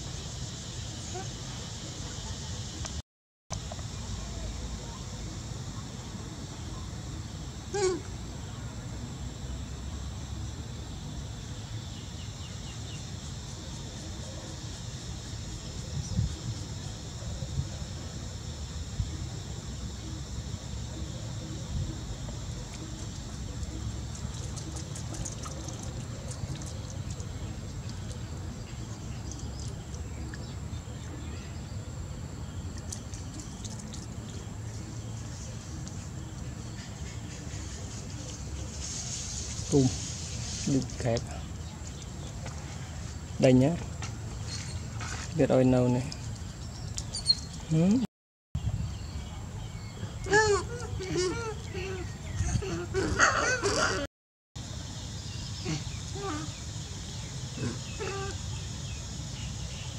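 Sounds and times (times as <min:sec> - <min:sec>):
insect drone: 0:00.0 - 0:44.8, 0:54.6 - 0:59.9.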